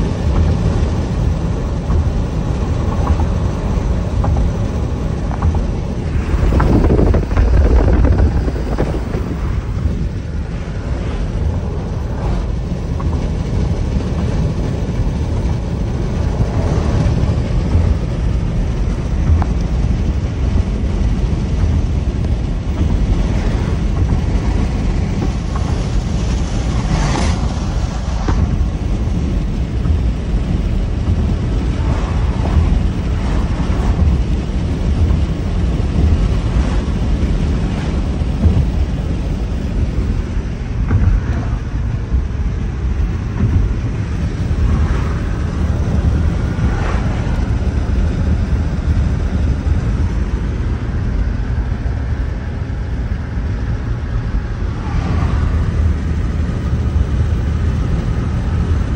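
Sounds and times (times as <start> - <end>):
car road and tyre noise: 0.0 - 58.9.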